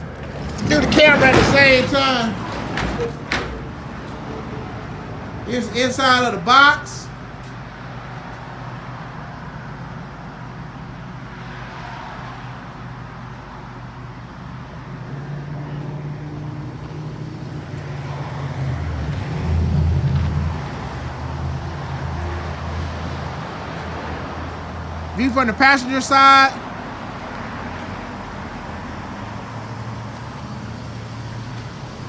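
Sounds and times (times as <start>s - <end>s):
truck engine idling: 0.0s - 11.6s, 12.5s - 32.0s.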